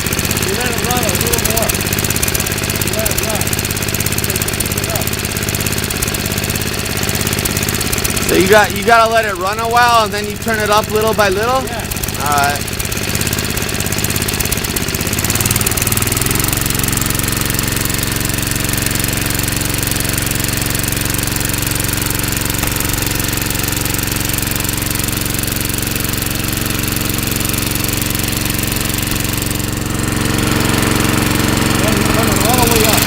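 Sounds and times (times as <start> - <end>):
snowblower engine warming up: 0.0 - 33.0.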